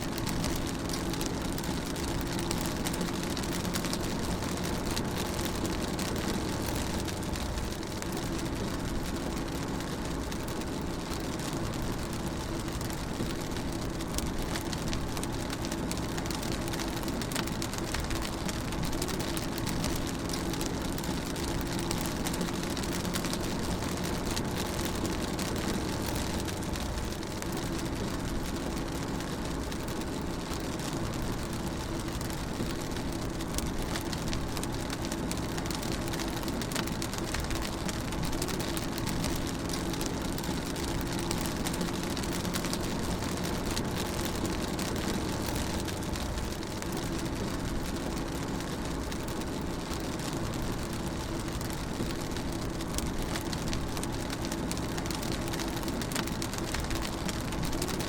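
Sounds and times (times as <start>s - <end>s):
rain on a car: 0.0s - 58.0s.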